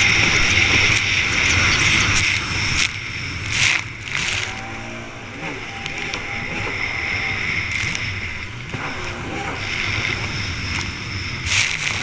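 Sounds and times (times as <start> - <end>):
jet ski engine: 0.0 - 12.0.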